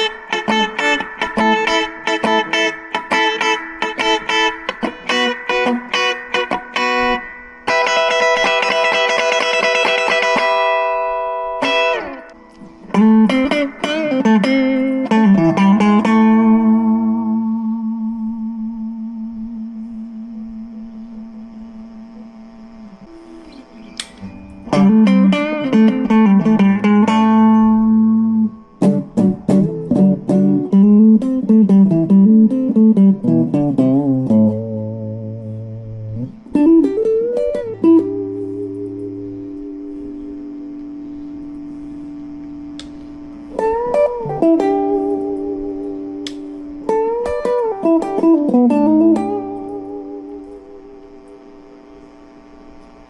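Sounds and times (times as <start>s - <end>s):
electric guitar notes: 0.0s - 53.0s.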